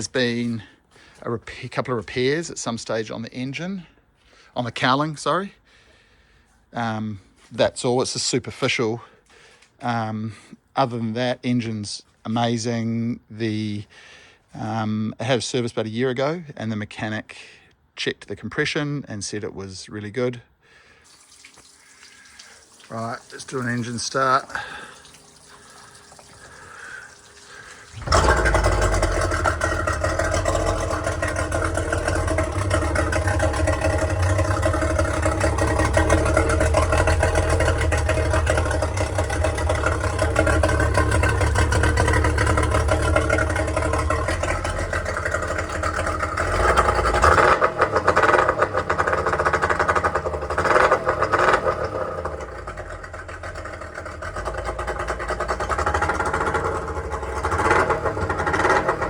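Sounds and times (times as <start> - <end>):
outboard motor starting and idling: 0.0 - 10.5, 21.0 - 59.0.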